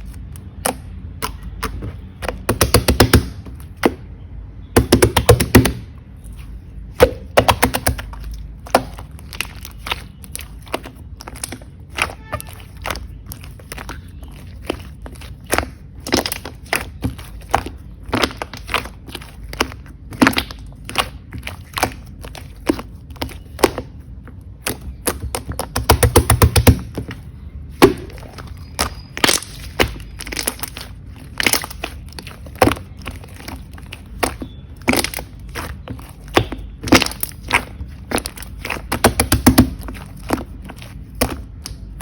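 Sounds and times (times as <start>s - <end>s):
slime squishing with clicks and pops: 0.0s - 4.1s, 4.7s - 5.9s, 6.9s - 42.0s.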